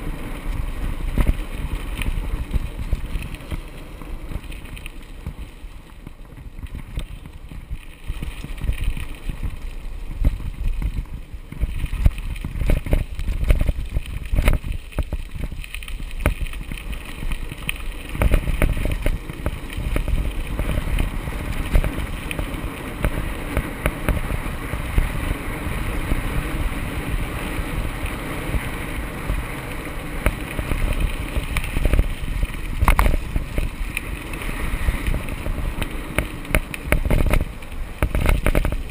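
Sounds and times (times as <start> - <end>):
bike knocking and rattling: 0.0 - 38.9
tyres rumbling on gravel: 0.0 - 38.9
wind buffeting microphone: 0.0 - 38.9.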